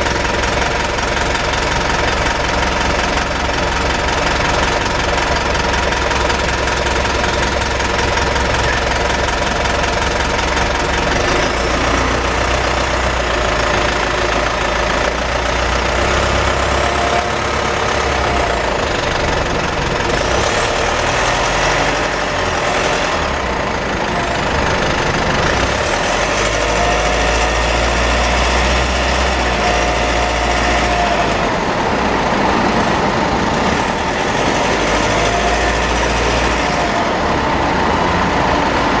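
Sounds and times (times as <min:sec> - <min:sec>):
diesel engine running: 0:00.0 - 0:39.0
high-pitched drivetrain whine: 0:00.0 - 0:39.0.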